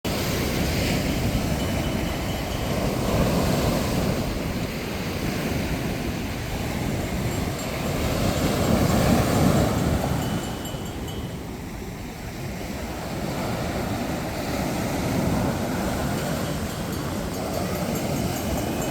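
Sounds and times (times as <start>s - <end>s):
sea waves washing ashore: 0.1s - 18.9s.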